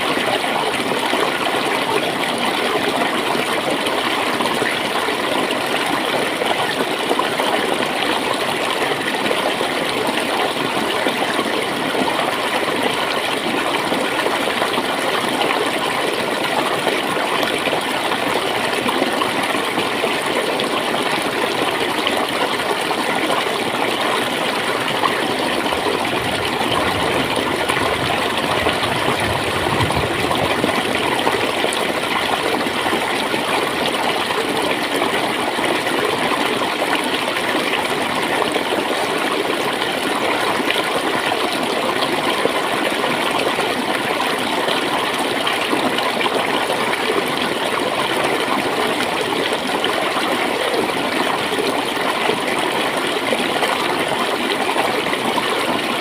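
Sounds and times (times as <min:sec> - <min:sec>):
water flowing over stones: 0:00.0 - 0:56.0.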